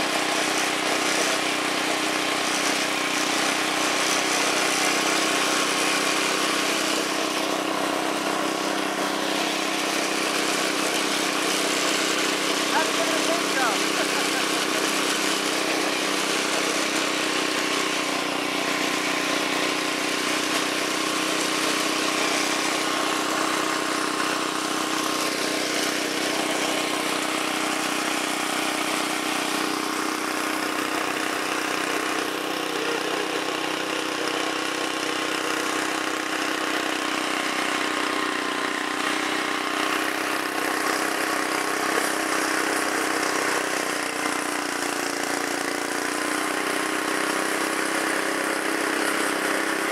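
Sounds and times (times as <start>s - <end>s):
lawn tractor engine running: 0.0s - 49.9s.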